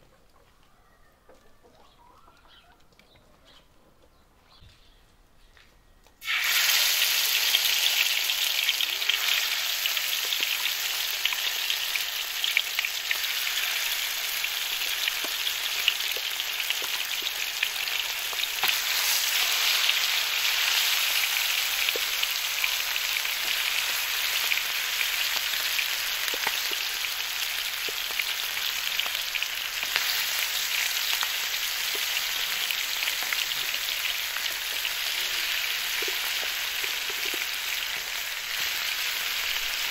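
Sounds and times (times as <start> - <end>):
chicken sizzling in hot oil: 6.2 - 39.9
oil crackles and pops: 6.2 - 39.9.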